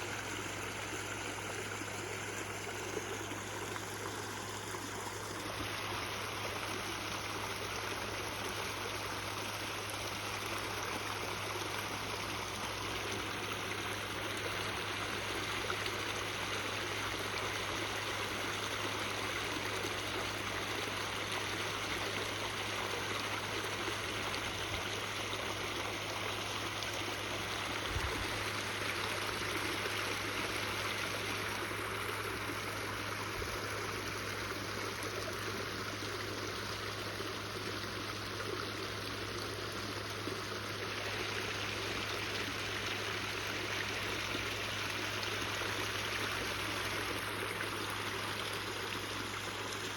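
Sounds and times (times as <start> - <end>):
water splashing and trickling: 0.0 - 49.9.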